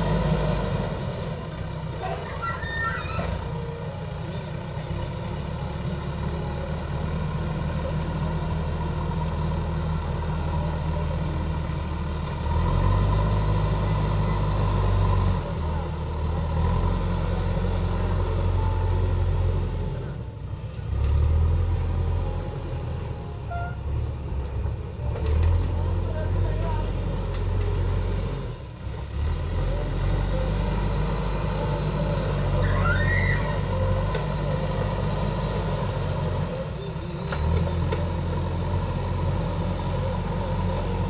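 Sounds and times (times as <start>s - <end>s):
diesel engine running and revving: 0.0s - 41.0s.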